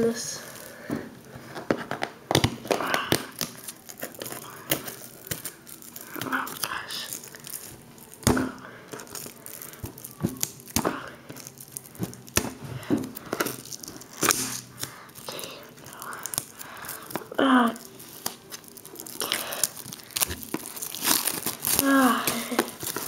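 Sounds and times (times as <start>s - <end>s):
shrink wrap crinkling and tearing: 0.0s - 23.0s.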